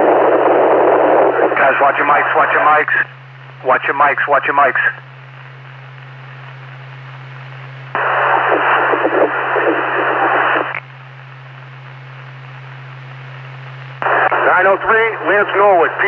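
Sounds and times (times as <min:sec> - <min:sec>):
radio static: 0:00.0 - 0:16.0
steady low hum: 0:00.0 - 0:16.0.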